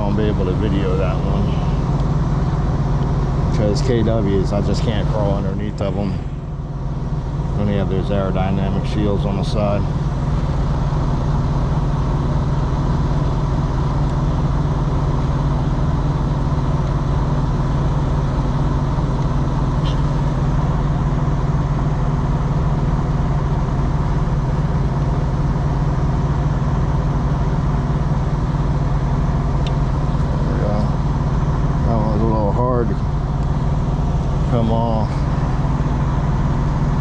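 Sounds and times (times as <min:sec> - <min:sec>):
idling engine drone: 0:00.0 - 0:37.0.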